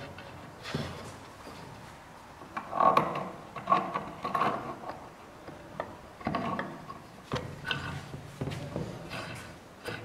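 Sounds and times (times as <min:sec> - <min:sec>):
wood knocking and scraping: 0:00.0 - 0:10.0.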